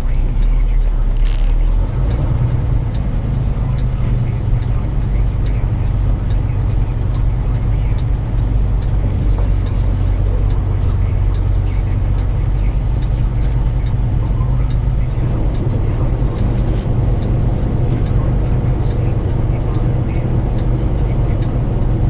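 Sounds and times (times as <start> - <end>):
truck diesel engine humming: 0.0 - 22.0.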